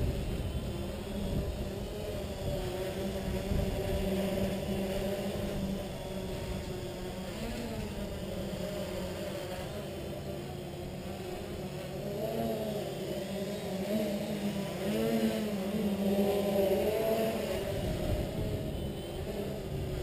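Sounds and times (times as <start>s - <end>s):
wind rumbling on microphone: 0.0s - 12.2s, 13.2s - 20.0s
drone propellers buzzing: 0.0s - 20.0s.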